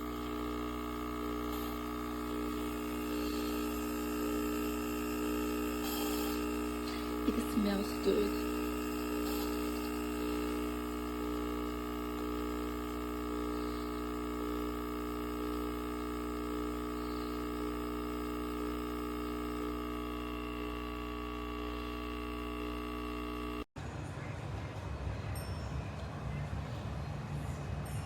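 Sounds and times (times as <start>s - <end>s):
espresso machine pump humming: 0.0s - 23.7s.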